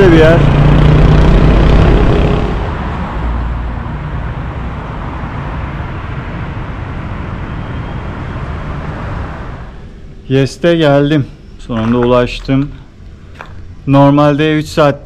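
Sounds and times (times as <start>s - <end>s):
traffic rumbling past: 0.0s - 14.1s.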